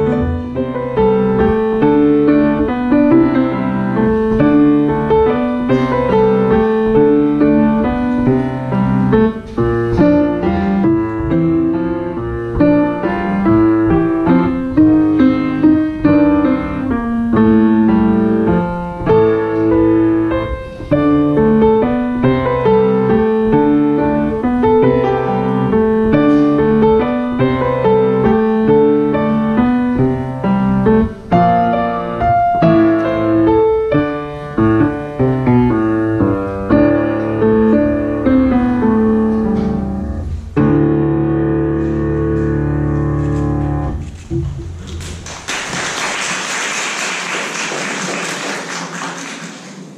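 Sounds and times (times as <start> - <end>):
grand piano playing: 0.0 - 49.9.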